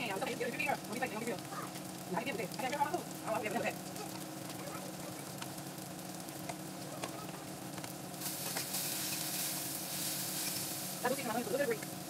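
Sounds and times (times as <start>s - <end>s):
onions sizzling in a skillet: 0.0s - 12.0s.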